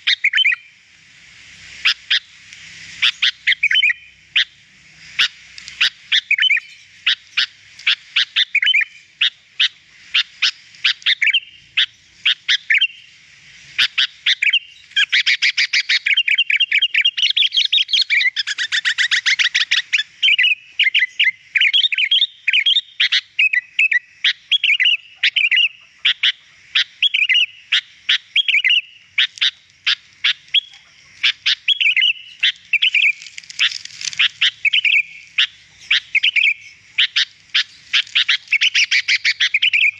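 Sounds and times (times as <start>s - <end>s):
bird singing chirps and trills: 0.0s - 0.7s, 3.0s - 4.6s, 5.2s - 13.2s, 13.8s - 39.9s.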